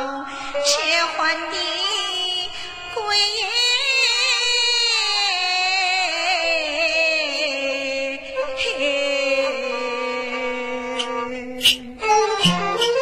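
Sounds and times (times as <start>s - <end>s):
opera singing: 0.0s - 11.9s.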